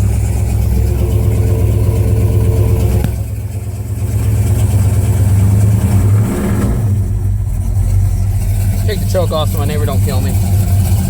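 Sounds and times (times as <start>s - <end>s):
engine running on choke: 0.0s - 11.0s.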